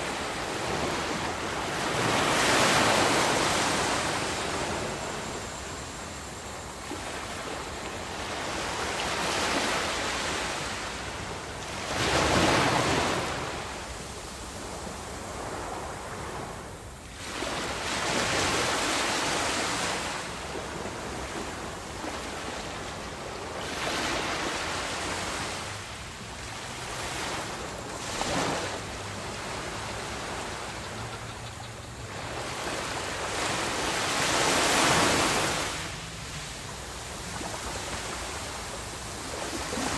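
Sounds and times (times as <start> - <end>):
waves crashing on beach: 0.0 - 39.9.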